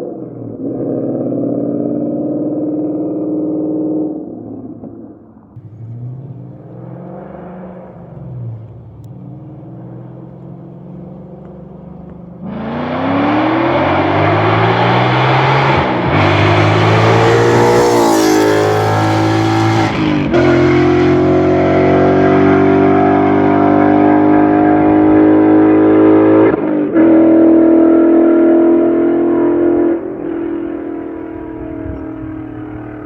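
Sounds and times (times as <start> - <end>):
car exhaust under hard acceleration: 5.6 - 33.0.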